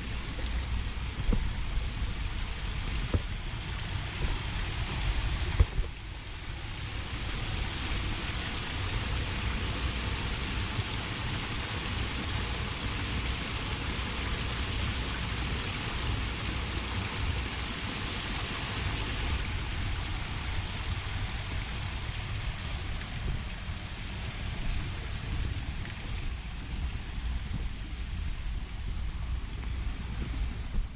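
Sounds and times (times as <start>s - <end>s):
small waterfall rushing: 0.0s - 30.9s.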